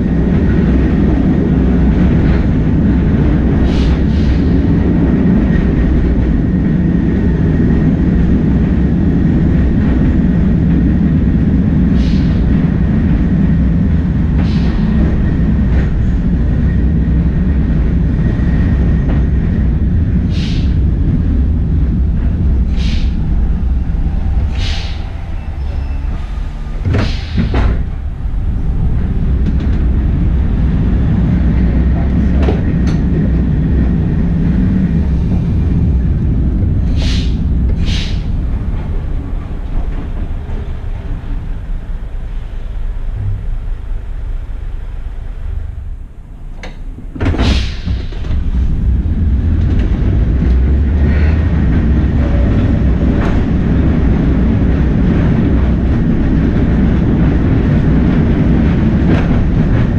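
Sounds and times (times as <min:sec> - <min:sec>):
tram motors and wheels rumbling: 0:00.0 - 0:59.9.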